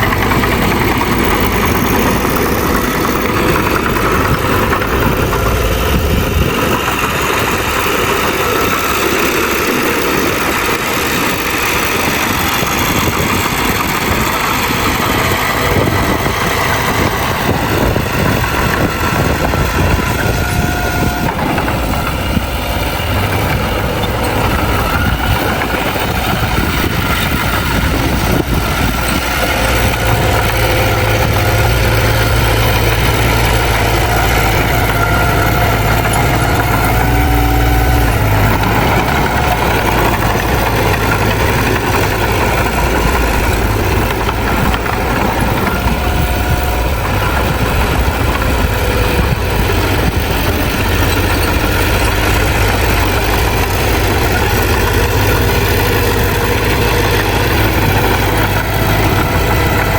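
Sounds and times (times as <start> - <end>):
heavy machinery engine rumble: 0.0 - 59.9.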